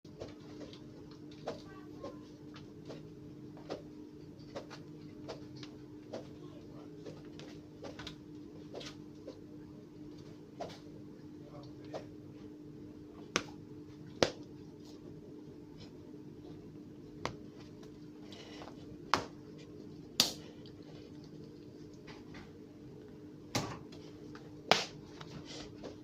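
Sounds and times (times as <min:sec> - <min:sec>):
steady low hum: 0:00.1 - 0:26.0.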